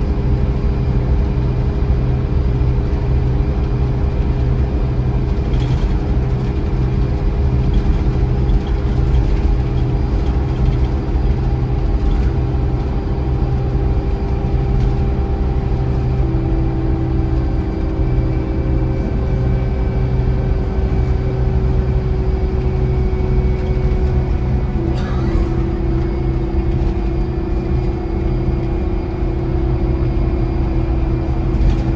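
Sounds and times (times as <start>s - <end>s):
coach engine drone: 0.0s - 31.9s
road noise: 0.0s - 31.9s.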